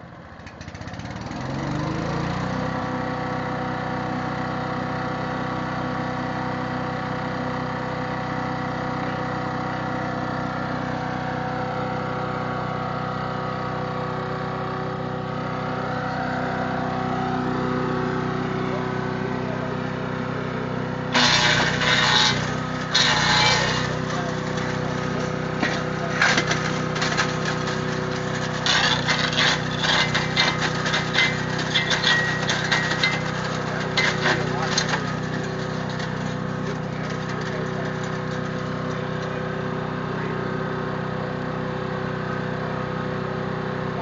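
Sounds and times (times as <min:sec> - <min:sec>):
chipper shredder engine running: 0:00.0 - 0:44.0.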